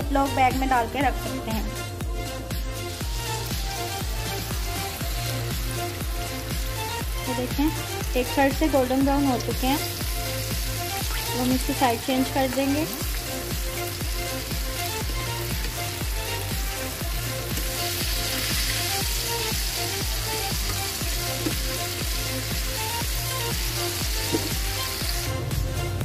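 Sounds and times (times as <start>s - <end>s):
background music with steady beat: 0.0s - 26.0s
chicken sizzling in hot oil: 2.8s - 25.4s.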